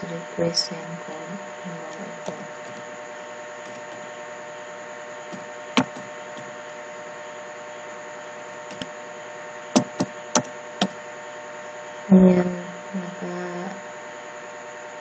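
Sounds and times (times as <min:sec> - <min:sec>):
electrical hiss and hum: 0:00.0 - 0:15.0.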